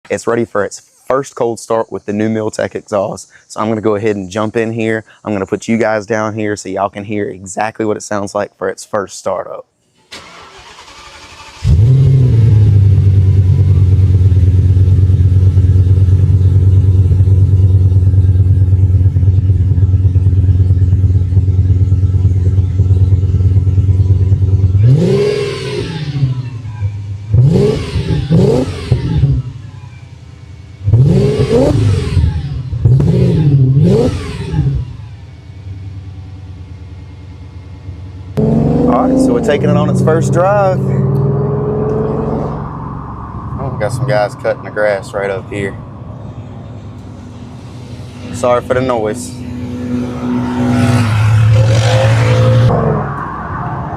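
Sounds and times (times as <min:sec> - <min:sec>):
car engine starting and idling: 0:09.9 - 0:53.9
car engine revving: 0:10.1 - 0:53.9.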